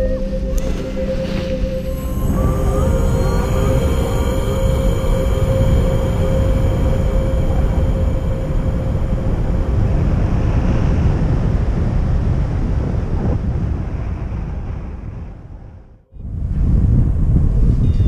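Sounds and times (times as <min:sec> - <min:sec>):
wind rumbling over microphone: 0:00.0 - 0:18.0.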